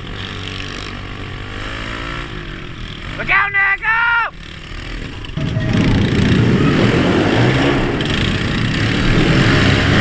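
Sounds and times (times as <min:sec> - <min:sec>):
pit bike engine running hard: 0:00.0 - 0:10.0.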